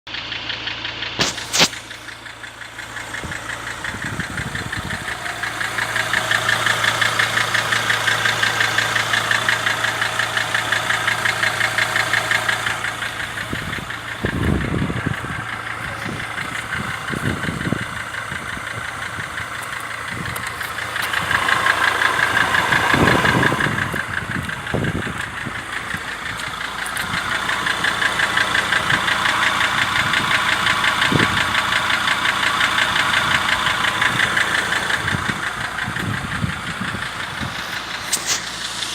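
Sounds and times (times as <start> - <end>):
diesel engine knocking: 0.1 - 38.9.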